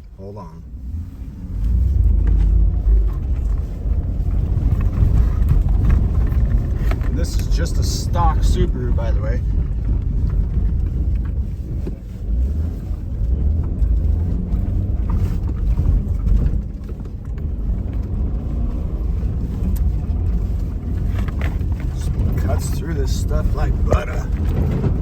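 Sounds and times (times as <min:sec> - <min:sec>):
car driving through snow: 0:00.0 - 0:25.0.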